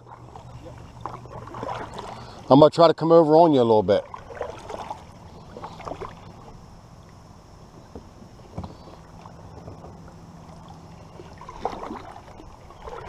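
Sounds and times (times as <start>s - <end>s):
boat engine low hum: 0.0s - 13.0s
water splashing: 0.0s - 13.0s.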